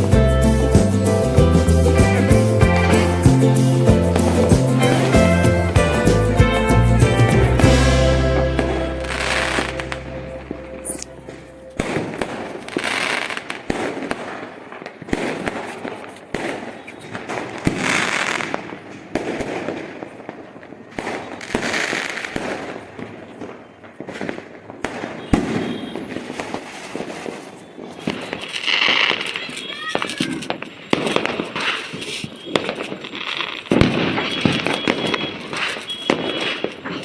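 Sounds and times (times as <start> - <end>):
rushing hiss of fireworks: 0.0 - 6.2, 7.6 - 37.0
fireworks cracks and bangs: 0.0 - 37.0.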